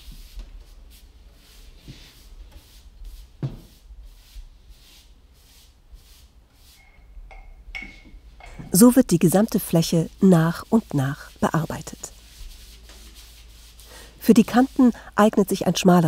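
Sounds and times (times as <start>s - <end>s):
paintbrush swishing on wood: 0.0s - 7.1s, 8.8s - 16.0s.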